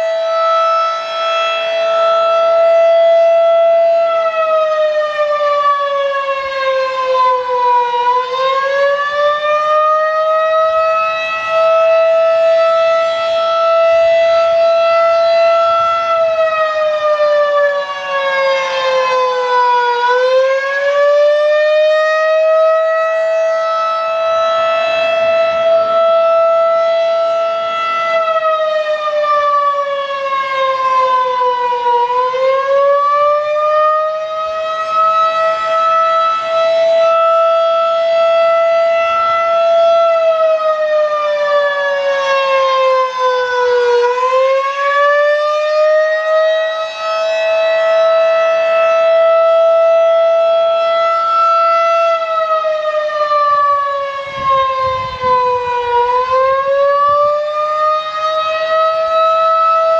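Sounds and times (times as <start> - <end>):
electromechanical siren: 0.0 - 59.9.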